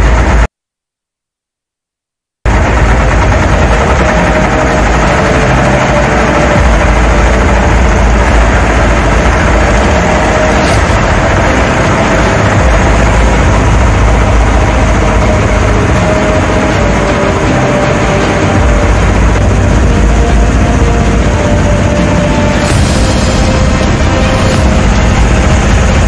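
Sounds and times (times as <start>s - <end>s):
engine drone with low rumble: 0.0s - 0.5s, 2.5s - 26.0s.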